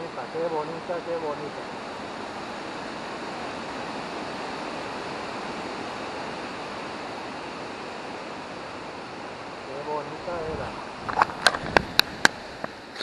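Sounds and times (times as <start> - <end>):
river water rushing: 0.0 - 13.0
wind blowing: 0.0 - 13.0.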